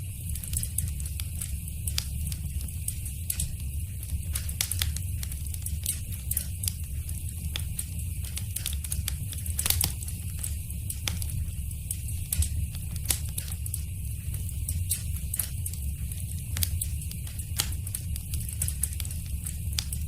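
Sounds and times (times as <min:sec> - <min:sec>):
wood fire crackling: 0:00.0 - 0:20.0
sharp pops of burning wood: 0:00.3 - 0:20.0.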